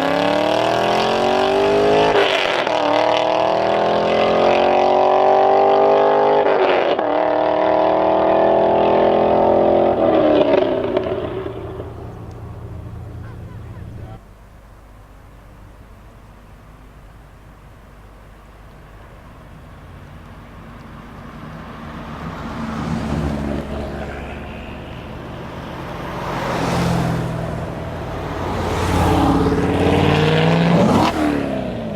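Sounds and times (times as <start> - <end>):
car exhaust accelerating hard: 0.0 - 14.2, 19.4 - 31.9.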